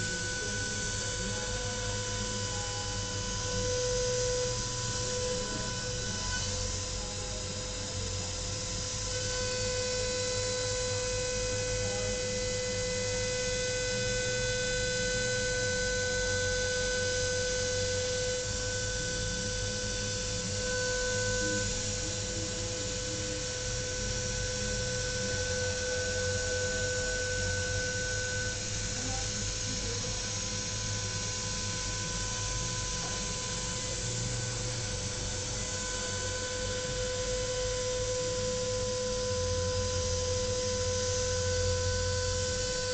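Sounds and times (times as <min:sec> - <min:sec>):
milling spindle whine: 0:00.0 - 0:42.9.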